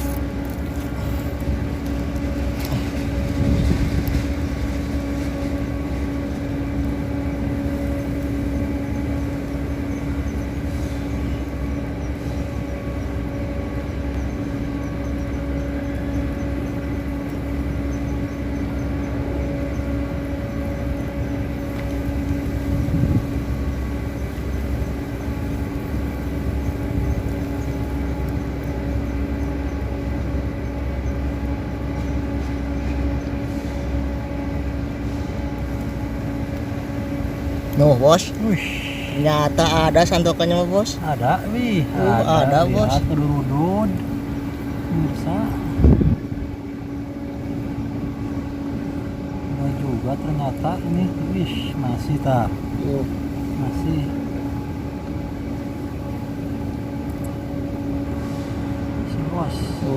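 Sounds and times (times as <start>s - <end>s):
steady engine drone: 0.0s - 59.9s.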